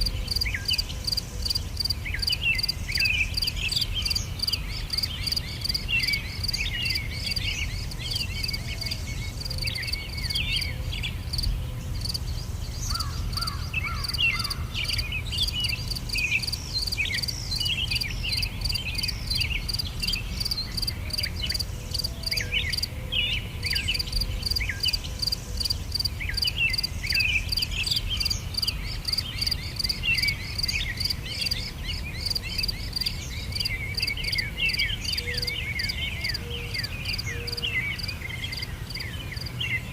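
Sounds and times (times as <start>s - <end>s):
insects chirping: 0.0s - 22.9s, 23.7s - 39.8s
small birds twittering: 0.0s - 39.9s.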